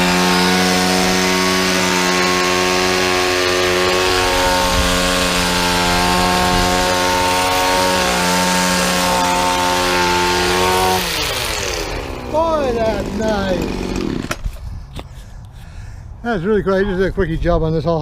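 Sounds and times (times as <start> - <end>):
hedge trimmer engine trimming bush: 0.0 - 15.0.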